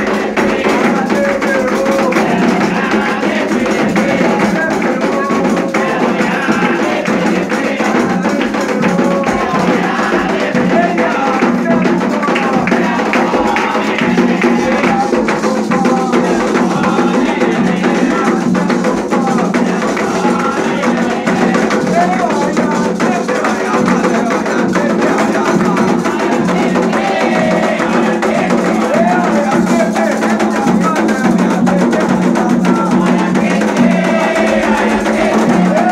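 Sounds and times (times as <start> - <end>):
hand drums beating: 0.0 - 35.9
people singing: 0.0 - 35.9.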